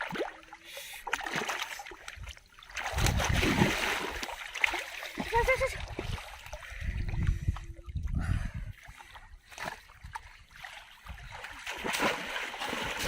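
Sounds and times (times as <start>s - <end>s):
river water splashing: 0.0s - 6.8s, 8.9s - 13.0s.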